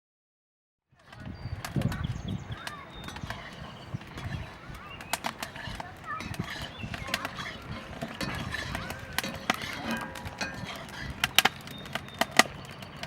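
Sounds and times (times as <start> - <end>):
hard objects knocking: 1.6 - 13.0.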